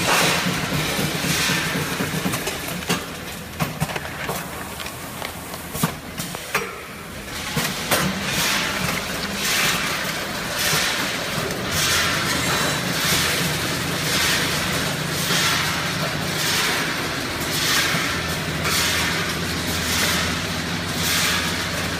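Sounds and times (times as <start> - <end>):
packaging machine humming: 0.0 - 21.9.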